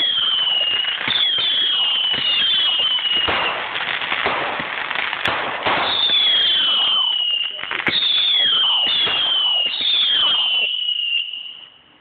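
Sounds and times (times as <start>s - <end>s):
firework burst: 0.0s - 11.3s
firework crackling and pops: 0.0s - 11.7s
whistling fireworks: 0.0s - 11.9s.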